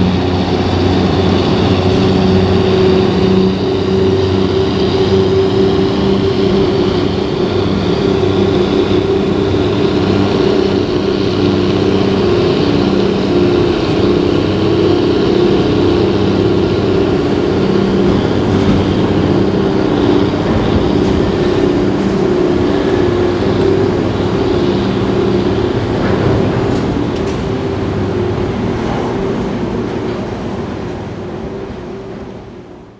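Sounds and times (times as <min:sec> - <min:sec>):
diesel engine droning: 0:00.0 - 0:32.9.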